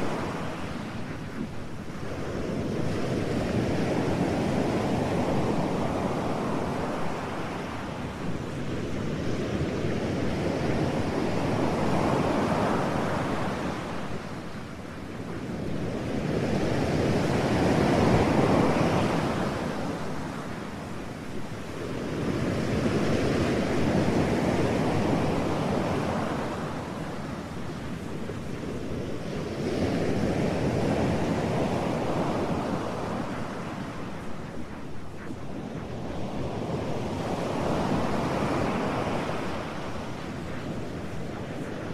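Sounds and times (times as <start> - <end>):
rushing surf-like noise: 0.0 - 41.9.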